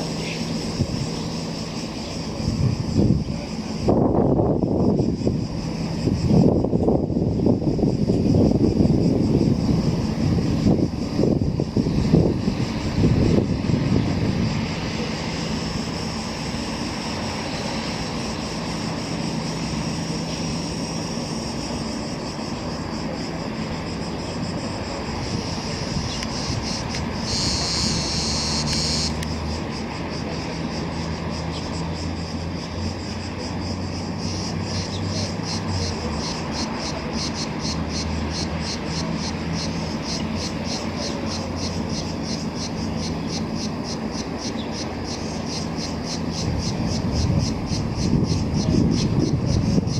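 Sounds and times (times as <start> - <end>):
fast pulsing insect chirr: 0.0 - 49.9
high insect buzz: 0.0 - 49.9
insects chirring: 0.0 - 49.9
ship engines droning: 0.0 - 49.9.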